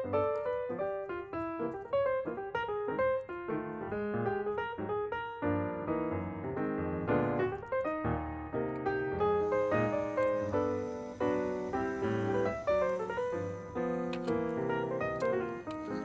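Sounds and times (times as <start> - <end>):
piano melody with chords: 0.0 - 16.0.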